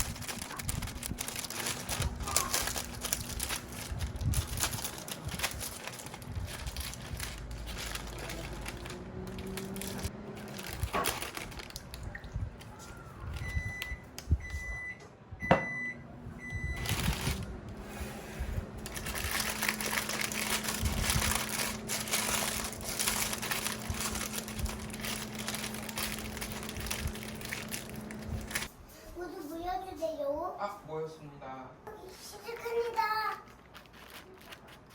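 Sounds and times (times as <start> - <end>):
rustling handling noise: 0.0 - 14.8, 16.5 - 17.5, 18.6 - 28.7, 32.0 - 34.9.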